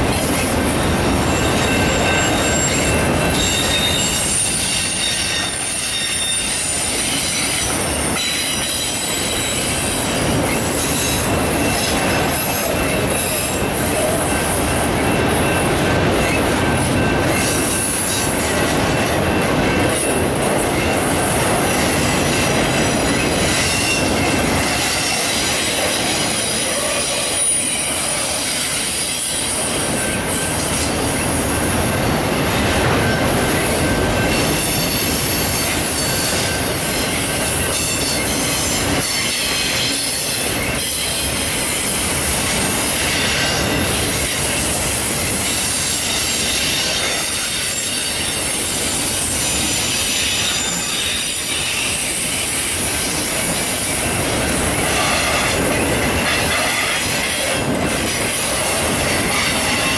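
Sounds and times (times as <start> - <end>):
train wheels rumbling on rail: 0.0 - 59.9
high wheel squeal: 0.1 - 59.9.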